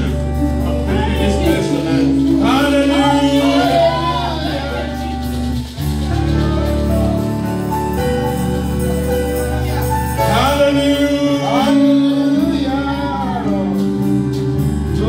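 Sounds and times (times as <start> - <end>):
voices singing worship music: 0.0 - 15.0.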